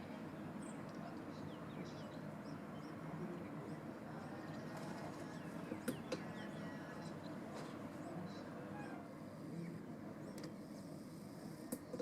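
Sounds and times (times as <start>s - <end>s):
small birds chirping: 0.0s - 11.9s
low background noise: 0.0s - 12.0s.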